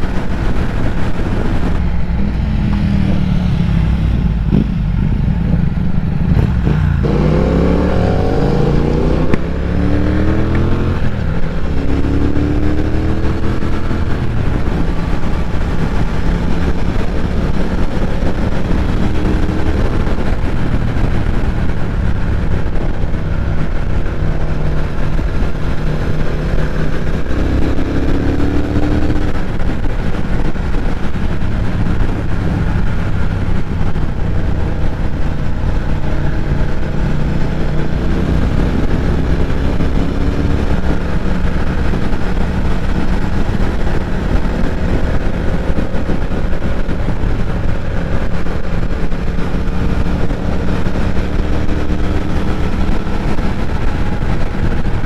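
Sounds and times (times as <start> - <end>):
motorcycle engine running: 0.0 - 55.0
wind rush on microphone: 0.0 - 55.0.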